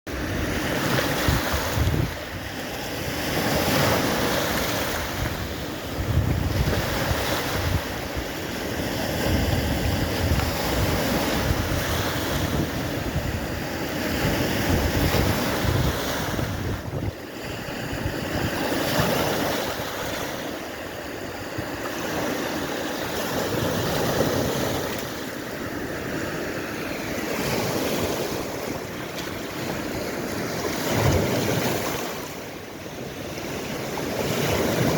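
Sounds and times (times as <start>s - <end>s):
wind buffeting microphone: 0.1s - 32.4s
waves washing in: 0.1s - 34.9s.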